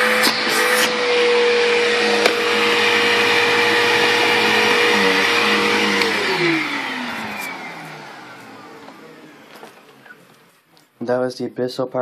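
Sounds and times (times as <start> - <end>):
vacuum cleaner motor whine: 0.0 - 10.7.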